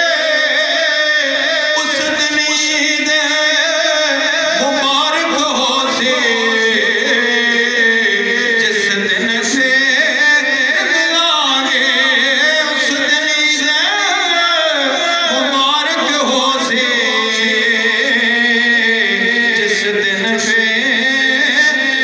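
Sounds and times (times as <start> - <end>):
man singing over pa system: 0.0 - 22.0.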